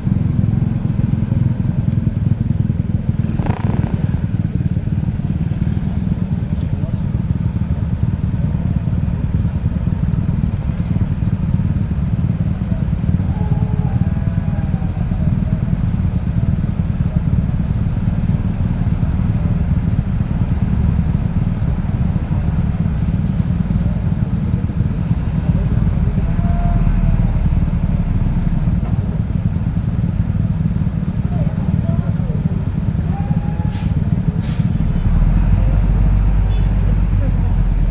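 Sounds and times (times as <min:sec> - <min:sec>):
motorcycle rumble: 0:00.0 - 0:37.9
road traffic: 0:00.0 - 0:37.9.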